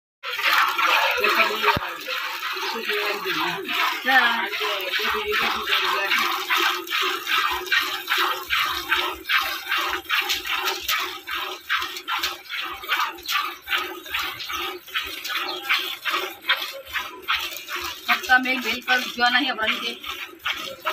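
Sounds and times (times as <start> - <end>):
milk squirting into steel pail: 0.2 - 20.9.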